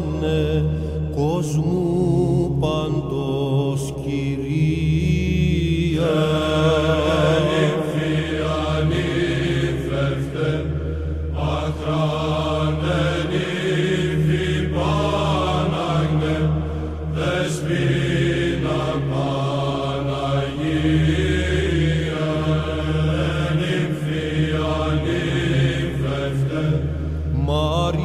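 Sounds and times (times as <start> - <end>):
low vocal drone: 0.0 - 28.0
ornamented chanting voice: 0.0 - 28.0.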